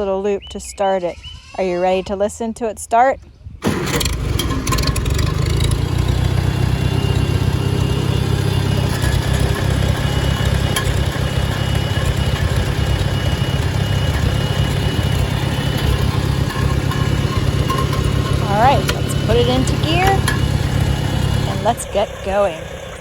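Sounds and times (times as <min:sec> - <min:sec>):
tractor engine idling: 0:03.6 - 0:23.0.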